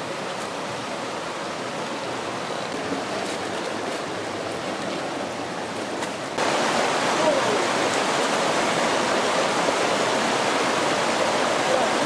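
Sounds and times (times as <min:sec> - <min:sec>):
river water running over rocks: 0:00.0 - 0:12.0.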